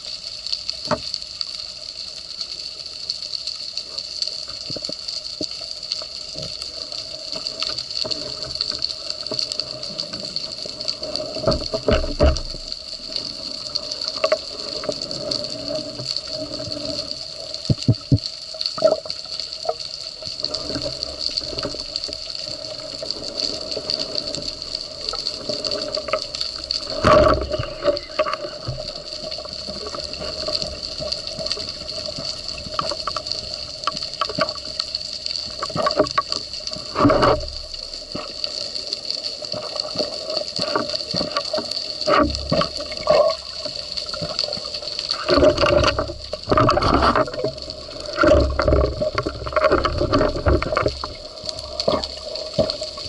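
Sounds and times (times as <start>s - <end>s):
bubbling and splashing: 3.8s - 53.0s
underwater hiss: 5.7s - 53.0s.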